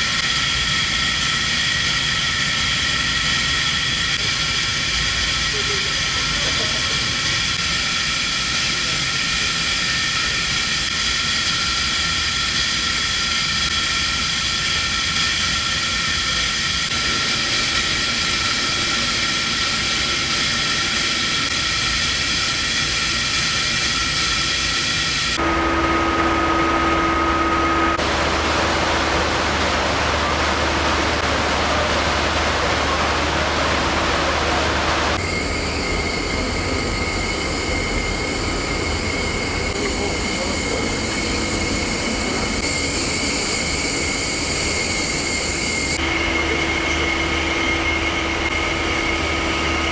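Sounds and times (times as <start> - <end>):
industrial machinery hum and hiss: 0.0 - 49.9
machinery whining tones: 0.0 - 49.9.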